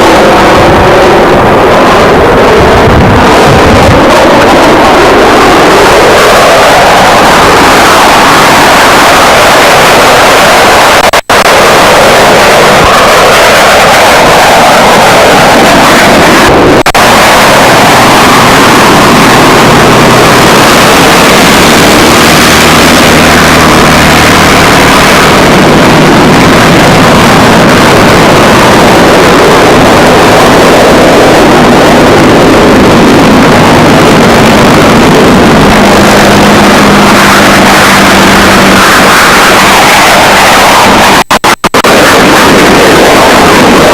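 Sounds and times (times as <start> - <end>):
piston aircraft engine roaring: 0.0 - 43.9.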